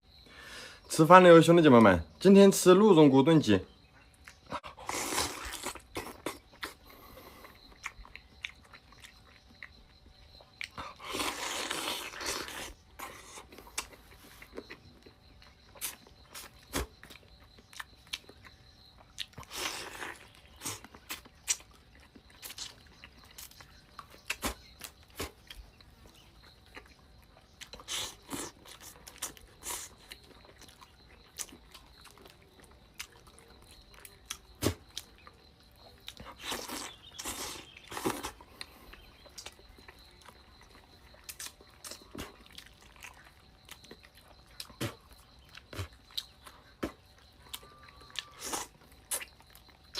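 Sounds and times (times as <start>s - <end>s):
person chewing and biting: 4.2s - 49.9s.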